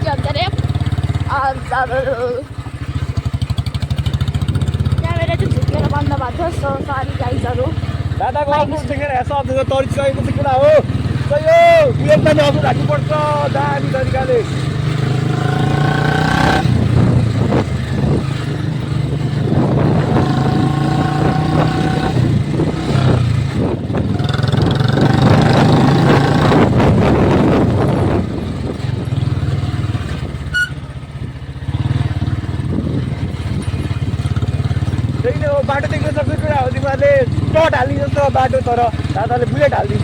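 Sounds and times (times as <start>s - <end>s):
motorcycle engine under load: 0.0s - 40.0s.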